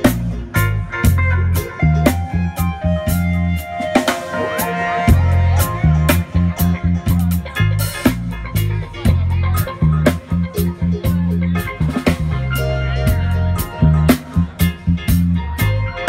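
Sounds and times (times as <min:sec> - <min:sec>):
heavy bass line: 0:00.0 - 0:16.0
reggae band playing: 0:00.0 - 0:16.0.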